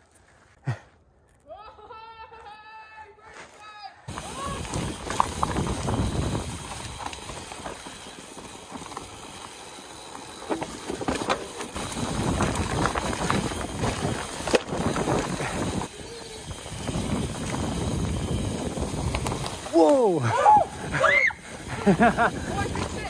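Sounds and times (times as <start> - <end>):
bike tyres on dirt and leaves: 0.0 - 23.0
bike rattling and knocking: 4.1 - 23.0.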